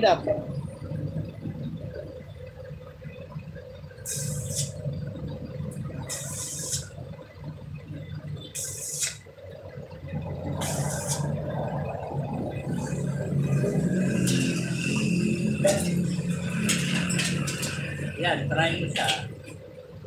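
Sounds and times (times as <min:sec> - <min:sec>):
low hum: 0:00.0 - 0:20.0
arc welding crackle: 0:02.5 - 0:19.7.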